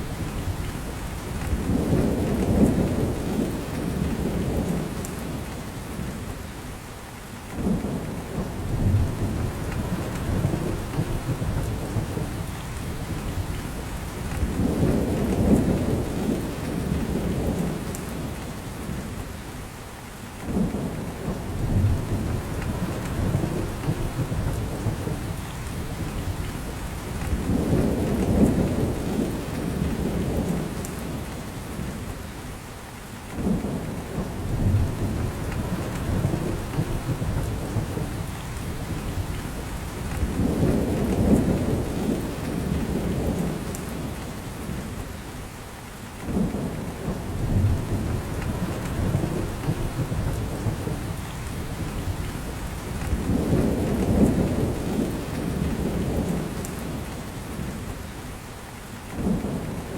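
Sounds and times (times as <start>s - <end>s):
steady rain in forest: 0.0s - 59.9s.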